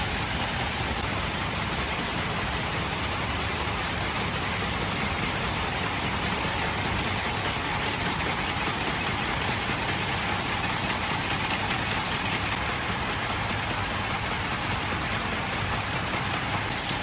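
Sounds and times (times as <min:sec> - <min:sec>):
factory machinery clattering: 0:00.0 - 0:17.0.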